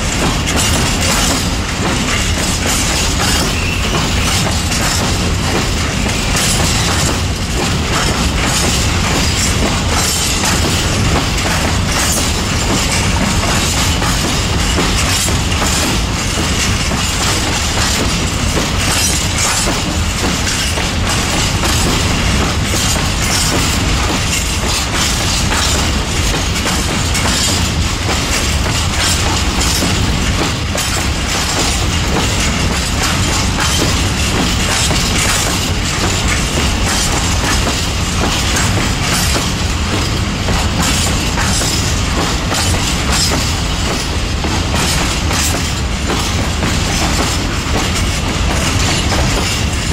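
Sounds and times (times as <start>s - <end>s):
train wheels clattering: 0.0s - 49.9s.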